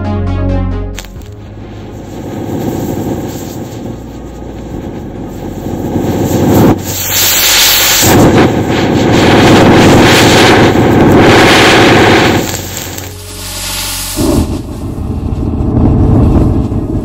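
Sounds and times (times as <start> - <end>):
matches burning with crackling hiss: 1.0 - 14.9.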